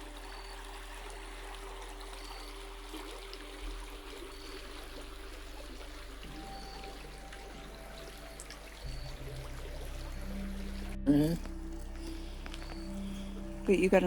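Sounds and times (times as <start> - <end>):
creek water flowing over rocks: 0.0 - 14.0.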